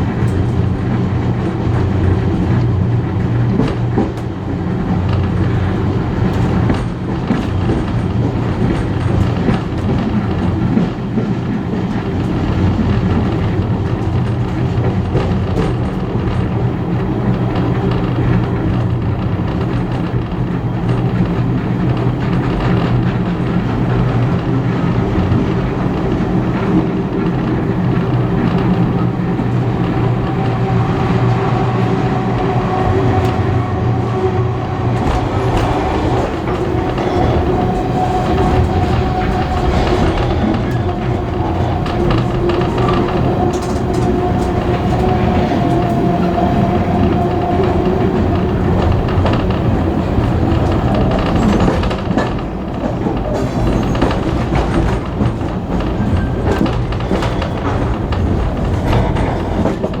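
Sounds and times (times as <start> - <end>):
train wheels rumbling on rails: 0.0 - 60.0.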